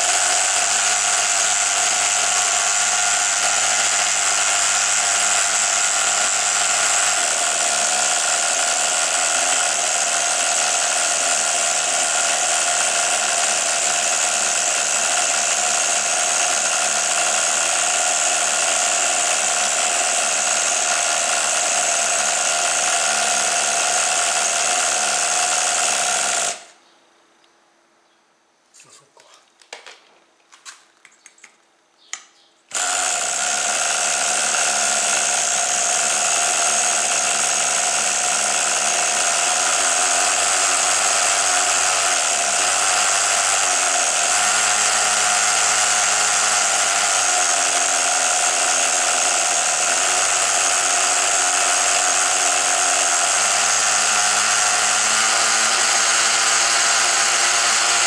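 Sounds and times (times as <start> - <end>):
small engine high buzzing: 0.0 - 26.7, 32.7 - 58.0.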